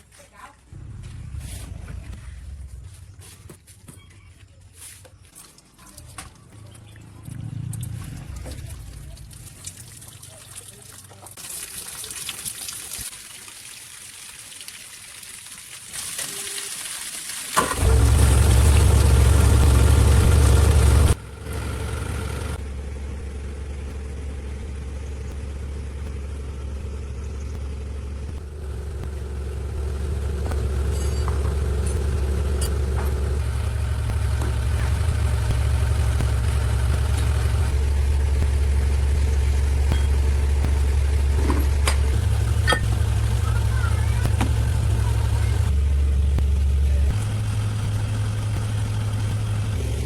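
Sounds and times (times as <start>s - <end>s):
engine rumbling: 0.5s - 10.4s, 17.6s - 50.0s.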